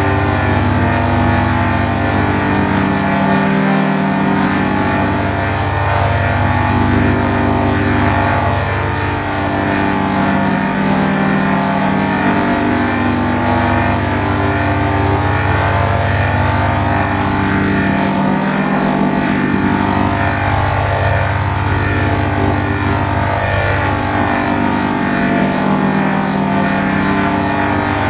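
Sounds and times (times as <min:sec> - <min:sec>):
distorted droning hum: 0:00.0 - 0:28.0.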